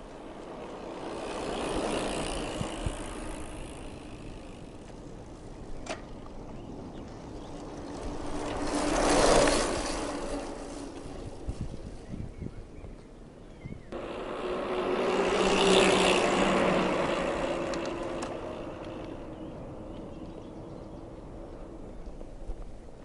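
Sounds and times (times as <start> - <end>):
bicycle tyres rolling: 0.0 - 23.0.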